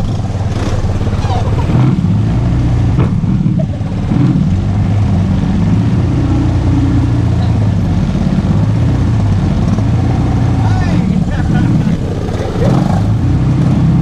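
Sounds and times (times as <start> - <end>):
quad bike engine droning: 0.0 - 14.0.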